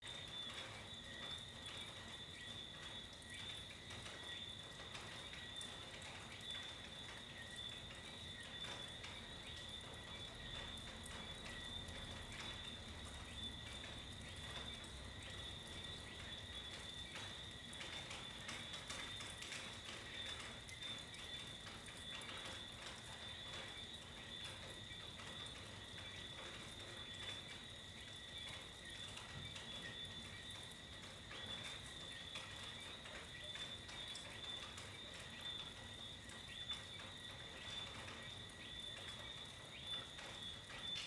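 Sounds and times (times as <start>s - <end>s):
raindrops ticking: 0.0s - 41.0s.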